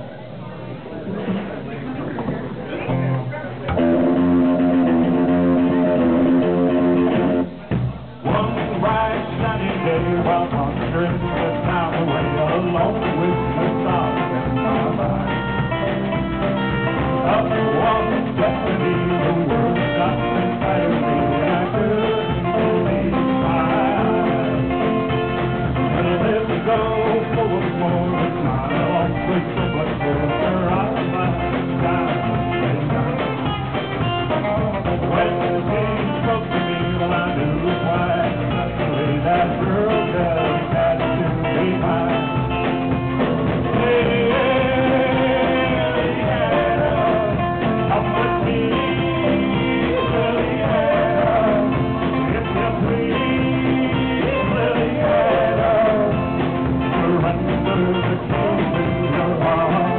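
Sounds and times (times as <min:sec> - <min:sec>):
guitar: 0:00.0 - 0:59.9
upright bass: 0:00.0 - 0:59.9
live rock band playing: 0:01.2 - 0:59.9
person singing: 0:08.3 - 0:33.3, 0:34.2 - 0:59.9.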